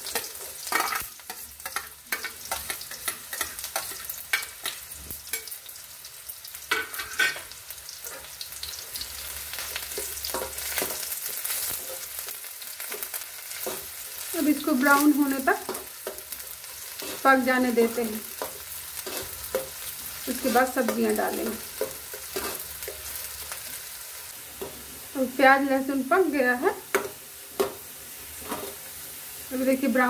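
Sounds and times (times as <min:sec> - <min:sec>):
onion sizzling in hot oil: 0:00.0 - 0:30.0.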